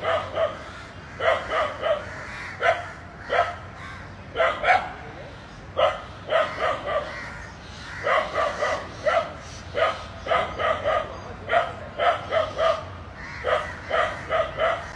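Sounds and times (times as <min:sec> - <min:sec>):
dog barking: 0:00.0 - 0:00.6, 0:01.2 - 0:03.6, 0:04.4 - 0:05.0, 0:05.8 - 0:07.2, 0:08.0 - 0:14.9.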